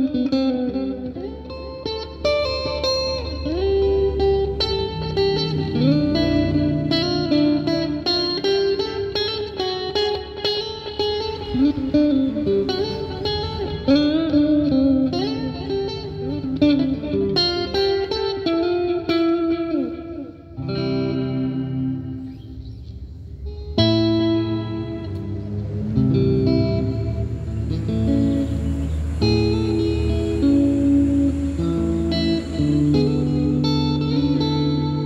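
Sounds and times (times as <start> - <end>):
electric guitar lead with effects: 0.0 - 35.0.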